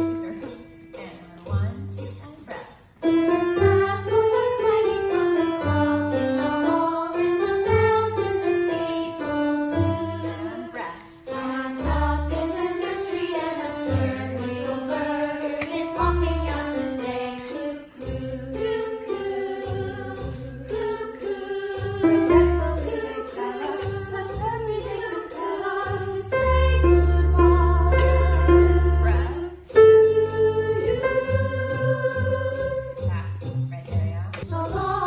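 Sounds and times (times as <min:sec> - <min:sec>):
voices singing with accompaniment: 0:02.5 - 0:33.5, 0:34.4 - 0:35.0.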